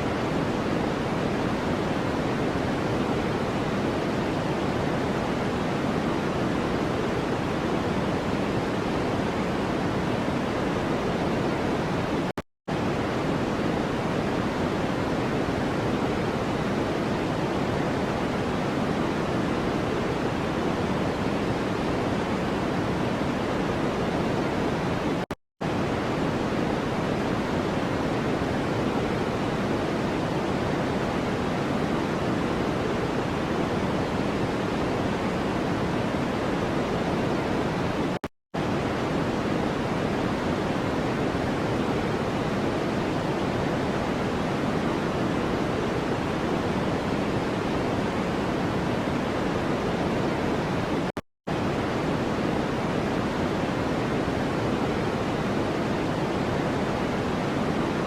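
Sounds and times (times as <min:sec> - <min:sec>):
steady white noise: 0:00.0 - 0:58.0.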